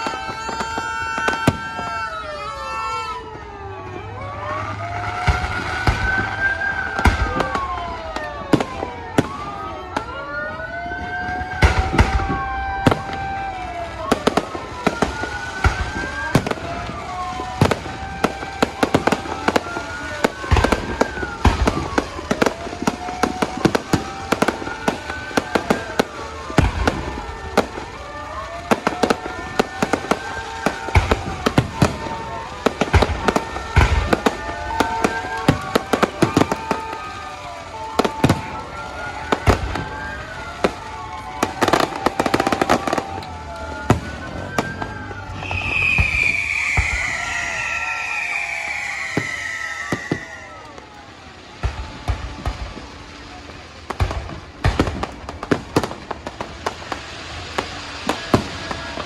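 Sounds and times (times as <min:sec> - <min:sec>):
fireworks whistling: 0:00.0 - 0:03.5, 0:04.4 - 0:10.2, 0:11.0 - 0:59.0
fireworks bangs and crackling: 0:00.0 - 0:59.0.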